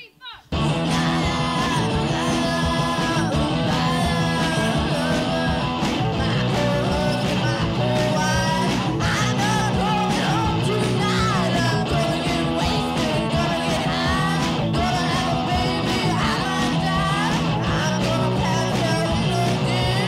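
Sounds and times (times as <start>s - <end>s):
drums: 0.4s - 20.0s
electric guitar: 0.5s - 20.0s
person singing: 0.5s - 20.0s.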